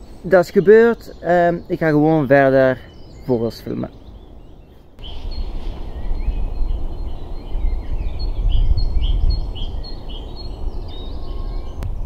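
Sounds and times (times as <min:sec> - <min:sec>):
small birds singing: 0:00.0 - 0:12.0.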